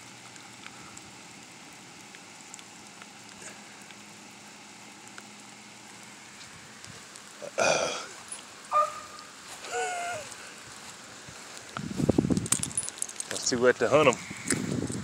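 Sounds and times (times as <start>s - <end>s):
light rain hissing: 0.0s - 15.0s.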